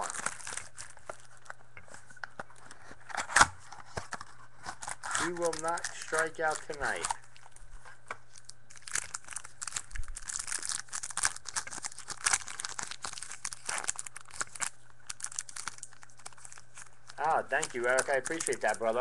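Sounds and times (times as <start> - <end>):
foil wrapper crinkling and tearing: 0.0 - 1.6, 2.2 - 7.6, 8.3 - 19.0.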